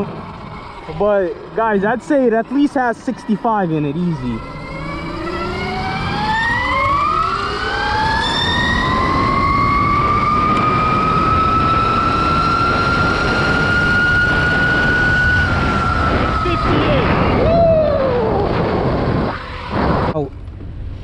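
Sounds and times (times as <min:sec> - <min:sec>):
electric motor whine: 0:00.0 - 0:20.2
wind rush on microphone: 0:03.2 - 0:21.0.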